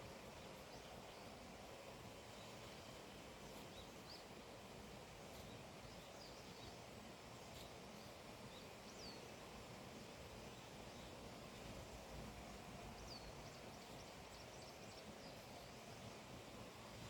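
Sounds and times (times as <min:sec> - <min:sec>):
steady soft hiss: 0:00.0 - 0:17.0.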